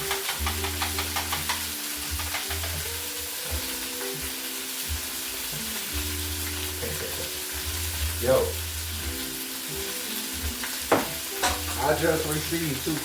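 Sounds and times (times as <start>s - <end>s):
background music: 0.0s - 13.0s
food sizzling in a pan: 0.0s - 13.0s.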